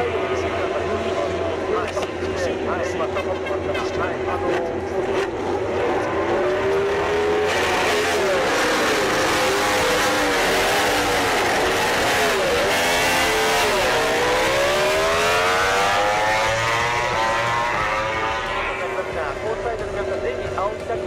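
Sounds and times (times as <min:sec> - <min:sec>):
racing motorcycle engine revving: 0:00.0 - 0:21.0.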